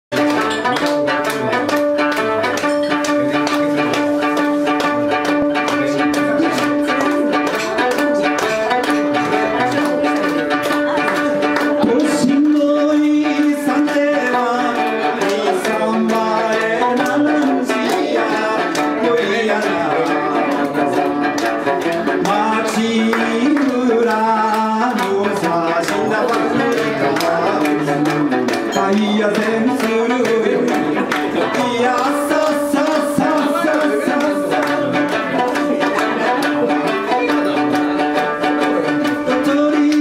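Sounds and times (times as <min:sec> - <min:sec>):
listeners clapping along: 0:00.1 - 0:40.0
three-stringed lute playing: 0:00.1 - 0:40.0.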